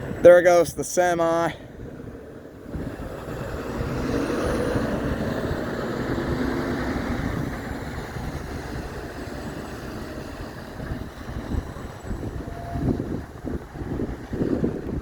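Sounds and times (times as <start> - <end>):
truck diesel engine and tyres: 0.0 - 15.0.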